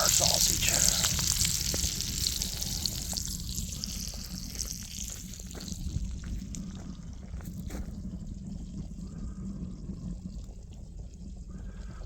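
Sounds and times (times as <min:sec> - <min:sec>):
eggs and sausage sizzling in a pan: 0:00.0 - 0:12.0.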